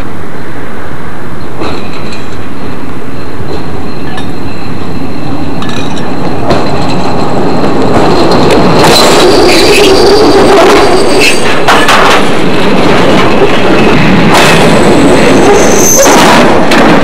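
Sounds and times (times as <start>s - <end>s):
freight wagon rolling on rails: 1.4s - 17.0s.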